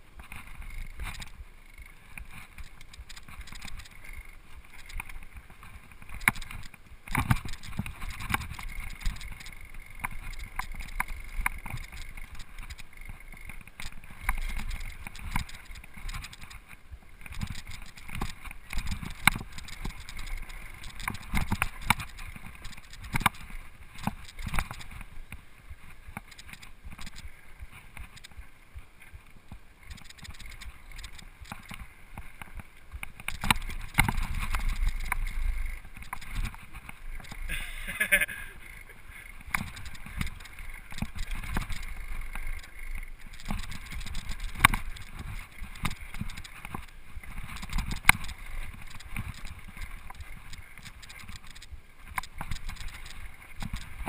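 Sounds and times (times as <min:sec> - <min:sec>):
bike tyres on rocky trail: 0:00.0 - 0:54.0.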